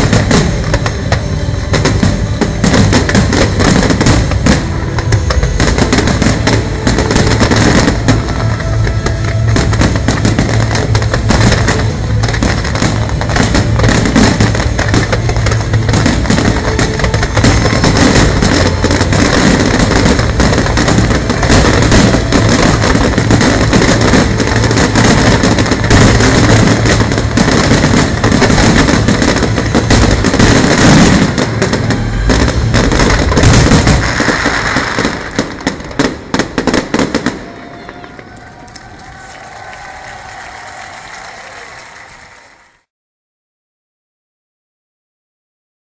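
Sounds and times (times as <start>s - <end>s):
fireworks bangs and crackles: 0.0s - 42.7s.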